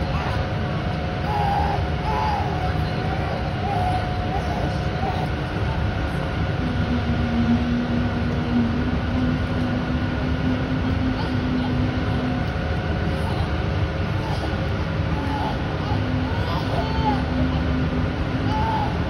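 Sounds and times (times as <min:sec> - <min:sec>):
low rumble of indoor pool hall: 0:00.0 - 0:19.0
steady hum: 0:00.0 - 0:19.0.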